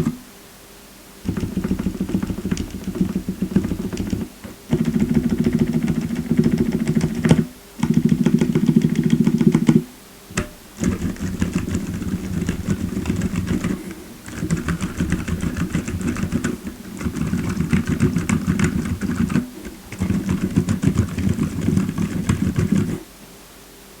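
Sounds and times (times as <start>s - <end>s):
muffled keyboard typing: 1.3s - 23.0s.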